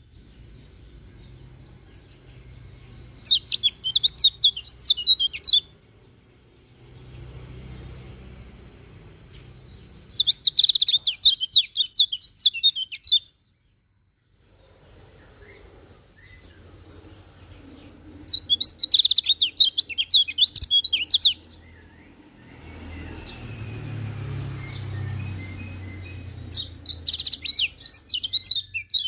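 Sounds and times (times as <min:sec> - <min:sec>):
bird twittering chirps: 0:00.0 - 0:13.9, 0:17.2 - 0:29.0
faint low background hum: 0:00.0 - 0:29.0.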